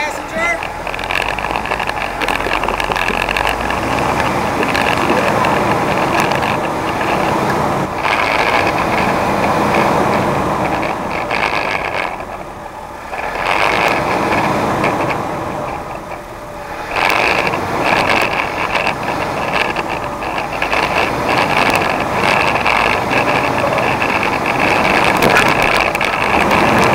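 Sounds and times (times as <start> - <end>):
rough off-road engines: 0.0 - 26.9.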